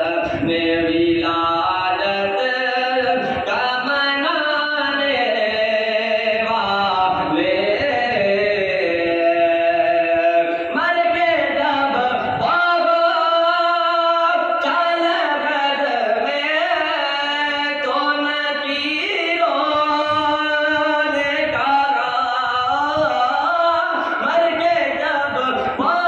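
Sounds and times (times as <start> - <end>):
man chanting: 0.0 - 26.0.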